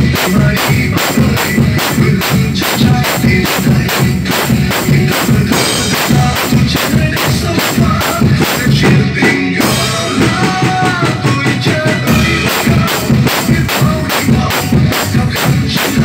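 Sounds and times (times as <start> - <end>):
drum kit playing a beat: 0.0 - 16.0
recorded song with melody: 0.0 - 16.0.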